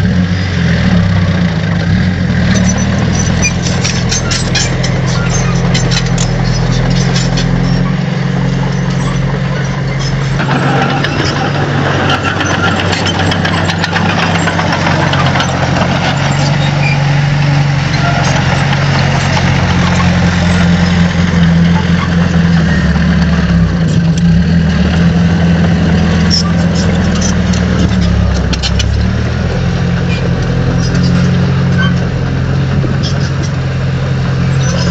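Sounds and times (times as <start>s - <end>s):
heavy machinery diesel engine running: 0.0s - 34.9s.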